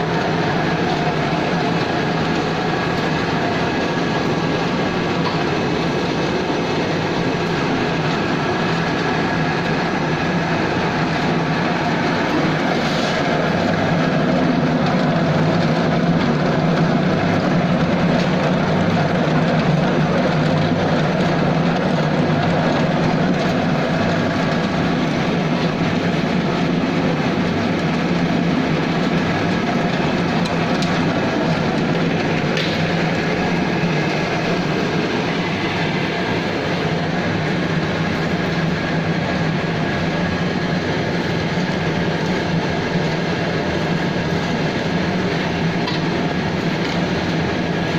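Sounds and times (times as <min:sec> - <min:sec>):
pellet machine droning: 0:00.0 - 0:47.9.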